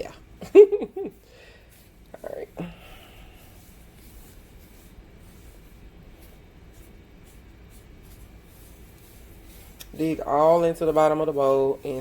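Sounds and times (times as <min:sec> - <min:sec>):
utensil stirring dry mix in bowl: 0:00.6 - 0:12.0.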